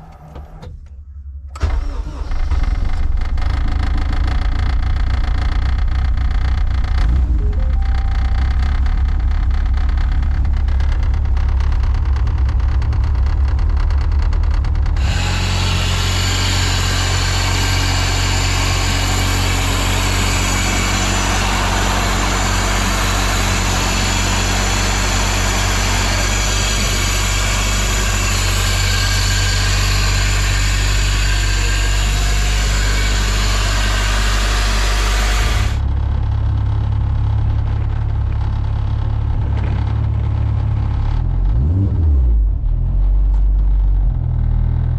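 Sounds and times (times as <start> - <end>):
car engine idling: 0.9 - 41.7.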